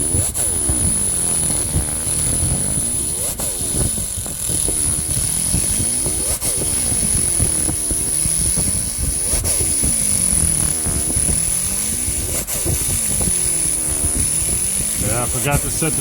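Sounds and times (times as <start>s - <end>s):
laser cleaner whine and buzz: 0.0s - 16.0s.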